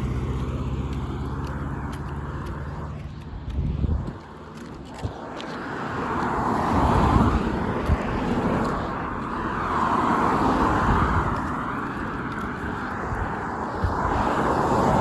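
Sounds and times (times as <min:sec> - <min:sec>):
traffic rushing past: 0:00.0 - 0:15.0.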